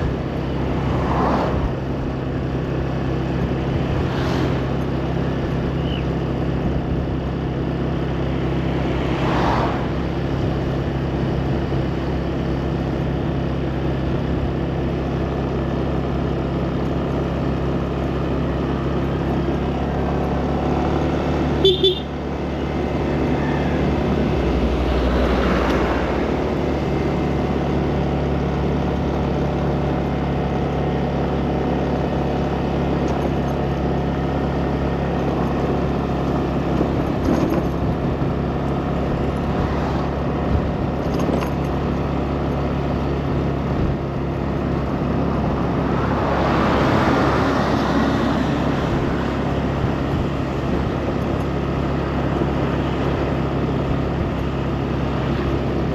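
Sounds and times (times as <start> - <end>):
road and wind noise: 0.0 - 55.9
vehicles passing: 0.0 - 55.9
motor scooter engine running: 10.0 - 55.9.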